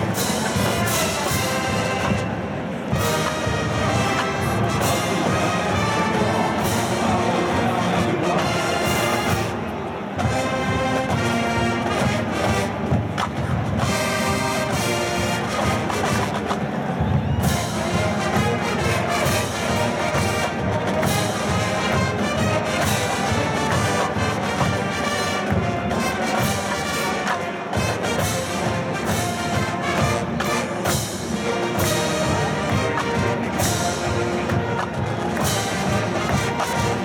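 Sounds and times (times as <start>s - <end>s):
marching band brass: 0.0s - 37.0s
steady drum beat: 0.0s - 37.0s.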